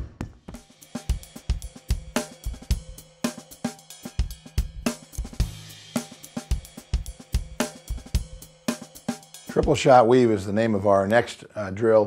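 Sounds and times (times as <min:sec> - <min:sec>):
drum kit beat with cymbals: 0:00.0 - 0:11.3.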